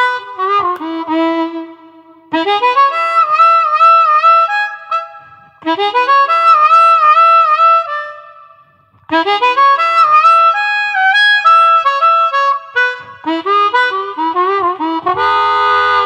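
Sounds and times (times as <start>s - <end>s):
harmonica playing chords: 0.0s - 16.0s.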